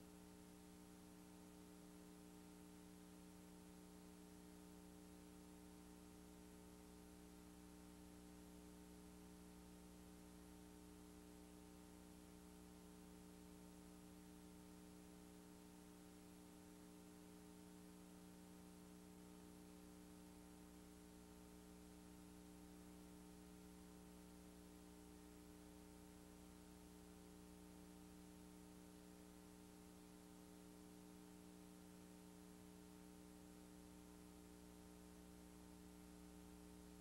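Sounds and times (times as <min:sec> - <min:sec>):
faint steady hum with hiss: 0:00.0 - 0:37.0.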